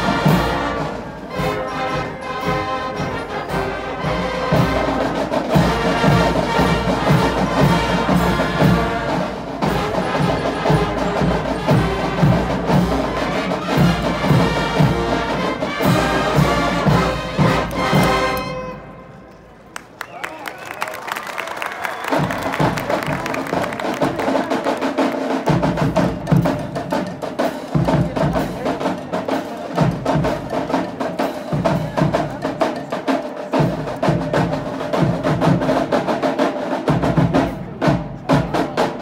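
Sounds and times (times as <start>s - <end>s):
steady drum beat: 0.0s - 18.4s, 21.9s - 39.0s
marching band brass: 0.0s - 19.3s, 20.3s - 39.0s.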